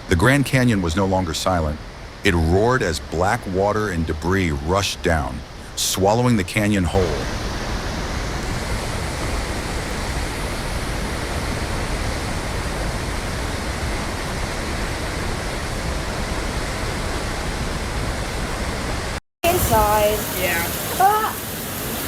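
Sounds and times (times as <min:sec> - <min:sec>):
roar of rushing floodwater: 0:00.0 - 0:22.0.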